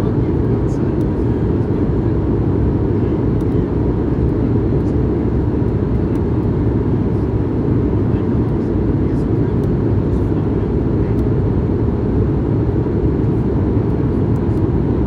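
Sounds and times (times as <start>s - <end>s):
airplane cabin rumble: 0.0s - 15.0s
faint steady whine: 0.0s - 15.0s.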